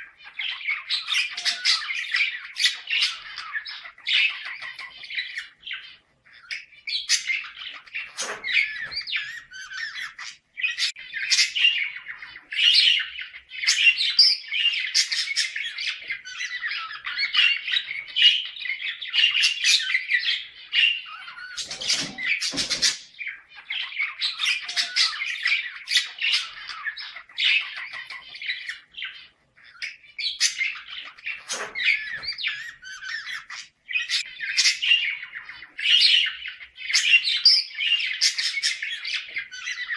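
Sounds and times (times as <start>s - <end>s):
budgerigars warbling and chattering: 0.0s - 39.9s.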